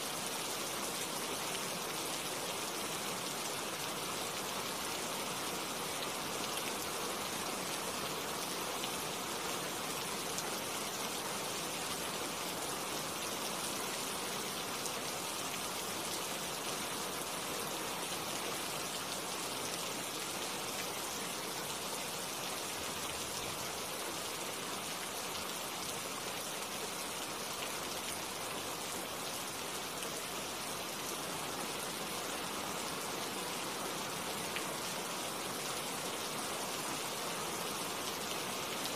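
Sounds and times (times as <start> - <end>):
rain pattering on leaves: 0.1 - 38.9.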